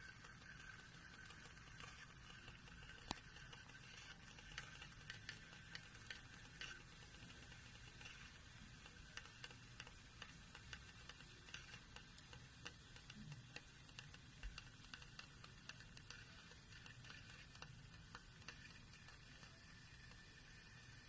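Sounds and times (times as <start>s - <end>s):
pop-pop boat engine ticking: 0.0s - 21.0s.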